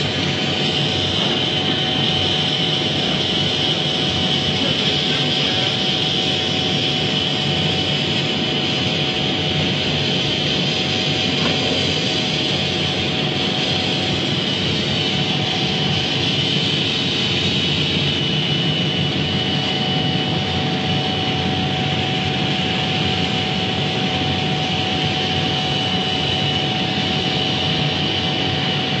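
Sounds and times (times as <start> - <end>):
laser cutting machine whine: 0.0 - 29.0.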